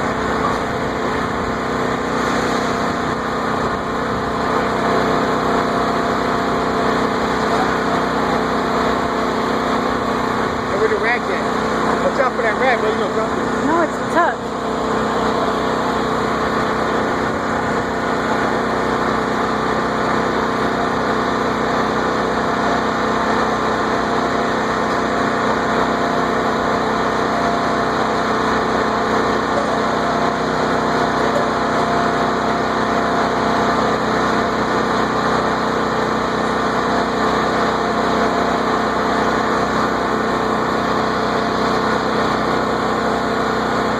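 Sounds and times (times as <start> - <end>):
engine humming steadily: 0.0 - 43.9.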